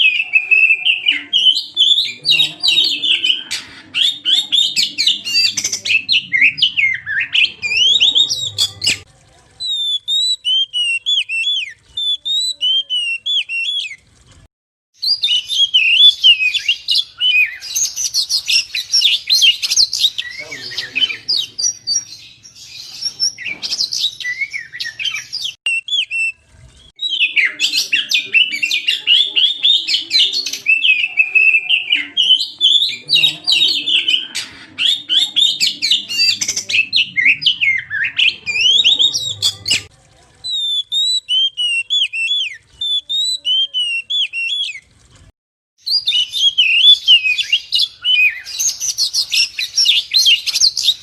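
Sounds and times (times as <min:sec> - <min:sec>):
magpie-robin singing chirps and whistles: 0:00.0 - 0:09.0, 0:09.6 - 0:14.0, 0:15.0 - 0:26.4, 0:27.0 - 0:39.9, 0:40.5 - 0:44.8, 0:45.8 - 0:51.0.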